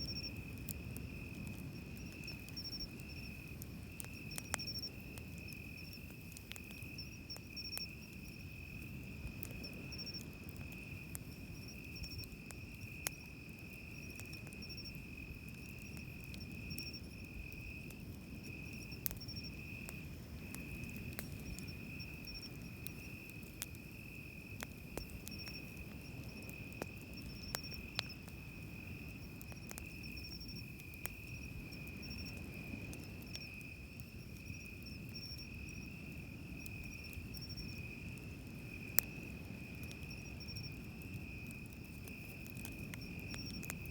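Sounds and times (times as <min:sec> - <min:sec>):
campfire crackling and popping: 0:00.0 - 0:43.9
crickets trilling: 0:00.0 - 0:43.9.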